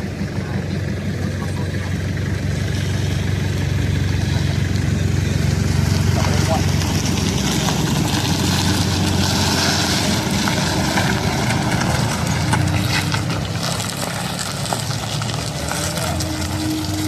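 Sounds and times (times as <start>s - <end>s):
vehicle low hum: 0.0s - 17.0s.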